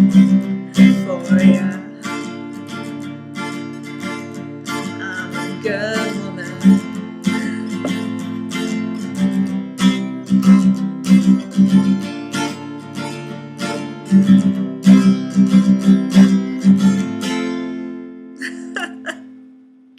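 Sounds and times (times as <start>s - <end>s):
acoustic guitar strumming: 0.0s - 19.9s.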